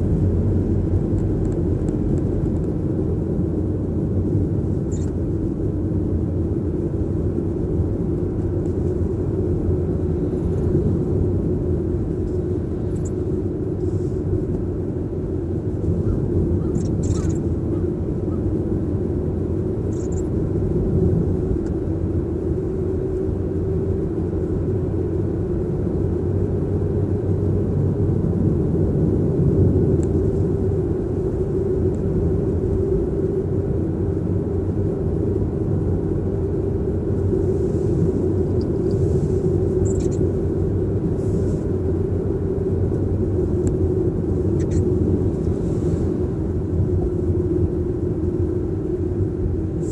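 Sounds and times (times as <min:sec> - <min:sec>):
road and tyre rumble in car cabin: 0:00.0 - 0:49.9.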